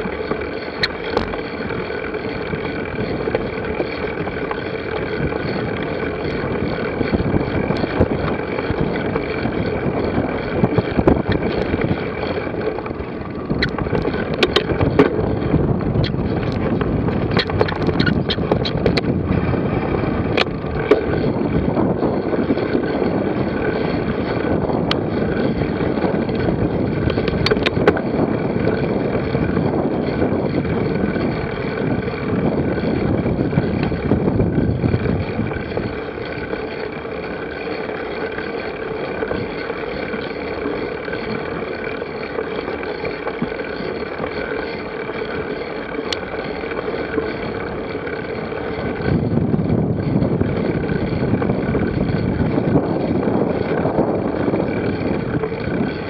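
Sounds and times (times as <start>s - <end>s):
rolling rumble: 0.0s - 56.0s
sharp rattles and clicks: 0.0s - 56.0s
wind rushing over microphone: 0.0s - 56.0s.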